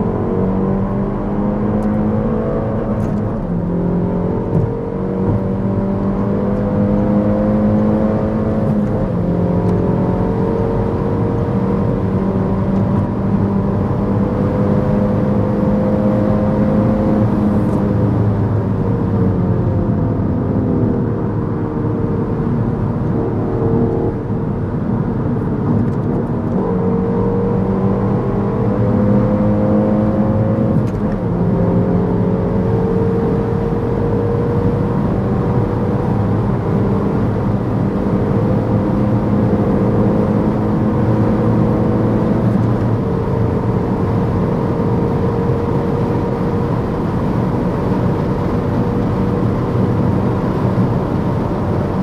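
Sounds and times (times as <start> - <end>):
car engine pulling hard: 0.0 - 52.0
road and wind noise: 0.0 - 52.0.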